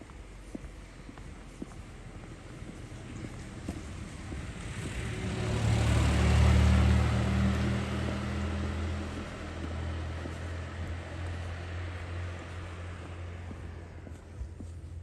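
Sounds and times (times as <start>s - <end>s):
motor vehicle passing: 1.8s - 15.0s.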